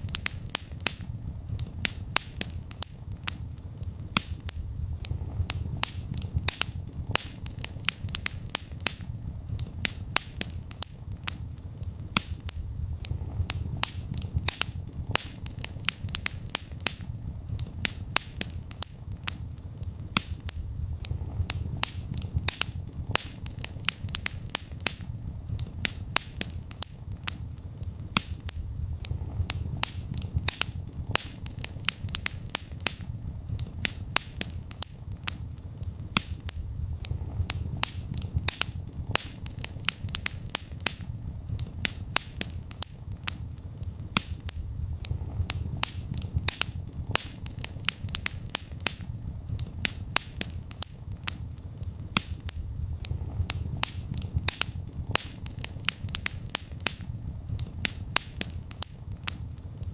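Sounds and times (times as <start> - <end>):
fire crackles and sharp pops: 0.0 - 59.9
low rumble of flames: 0.0 - 59.9.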